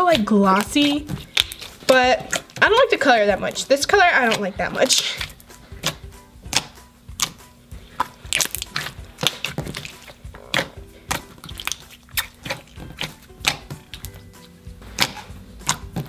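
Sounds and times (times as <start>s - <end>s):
faint background music: 0.0s - 16.0s
hands squishing slime: 0.0s - 16.0s.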